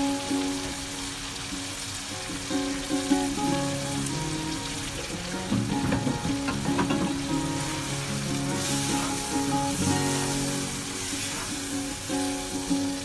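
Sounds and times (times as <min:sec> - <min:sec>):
food sizzling in a pan: 0:00.0 - 0:13.0
guitar music: 0:00.0 - 0:13.0.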